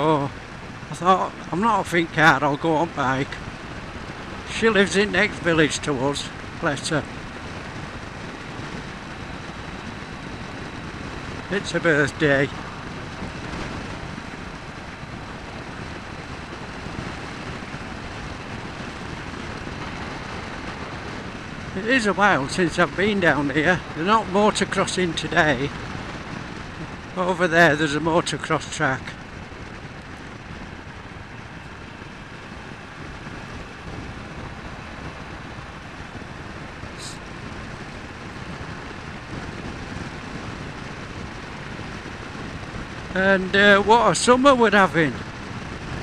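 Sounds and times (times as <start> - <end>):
motorcycle engine running: 0.0 - 46.0
wind and road noise: 0.0 - 46.0.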